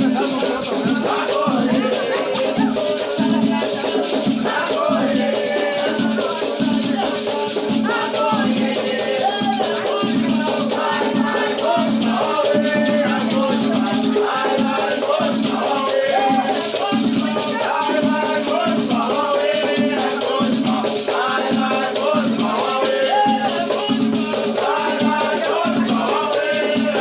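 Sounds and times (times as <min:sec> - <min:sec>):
chanted singing: 0:00.0 - 0:27.0
drumming: 0:00.0 - 0:27.0
shaken rattles: 0:00.0 - 0:27.0.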